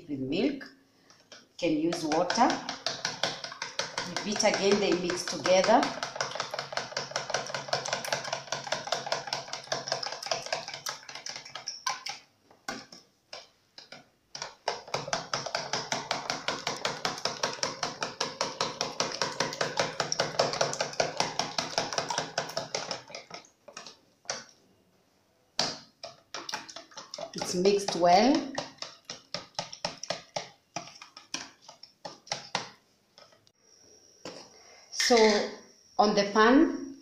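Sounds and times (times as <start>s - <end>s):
fork beating eggs in container: 1.2s - 24.5s, 25.6s - 33.4s.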